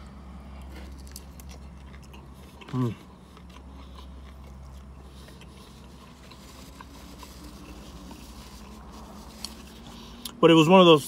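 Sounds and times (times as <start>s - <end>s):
faint chewing: 0.0s - 10.4s
low hum in car cabin: 0.0s - 11.0s.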